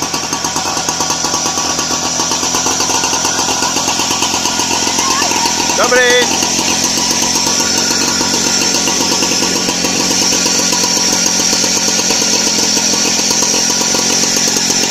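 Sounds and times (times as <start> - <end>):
small engine running steadily: 0.0 - 14.9.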